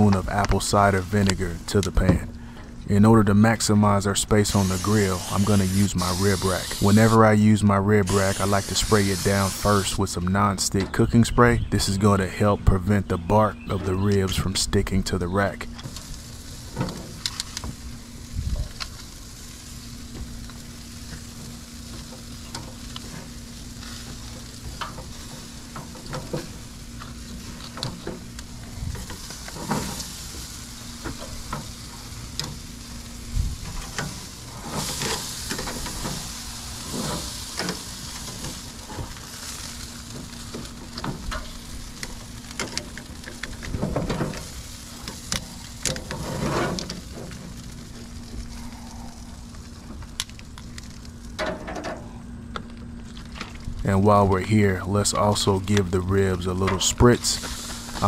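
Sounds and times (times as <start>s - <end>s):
ribs sizzling over charcoal: 0.0s - 58.0s.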